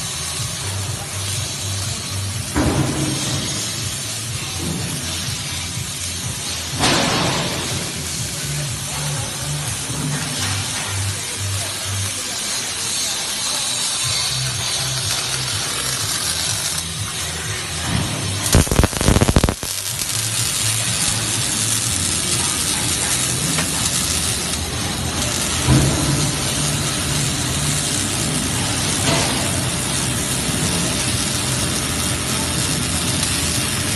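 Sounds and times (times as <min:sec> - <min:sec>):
welding arc crackling and hissing: 0:00.0 - 0:33.9.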